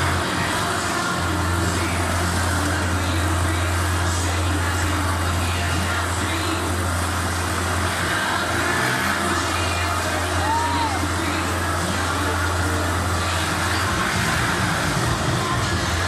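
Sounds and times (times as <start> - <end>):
motorcycle engines running: 0.0 - 16.0.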